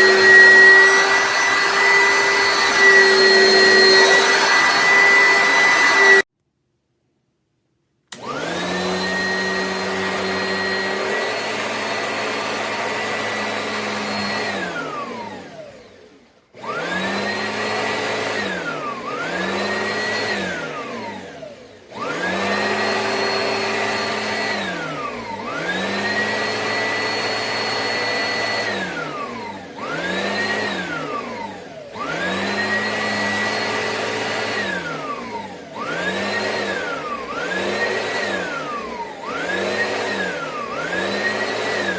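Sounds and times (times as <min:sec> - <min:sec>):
vacuum cleaner motor whining: 0:00.0 - 0:06.3, 0:08.1 - 0:41.9.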